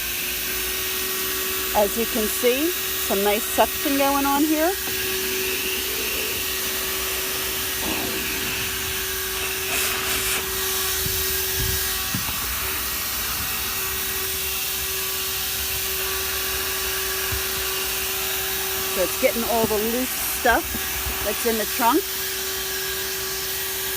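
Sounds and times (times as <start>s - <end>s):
handheld vacuum running: 0.0s - 23.9s.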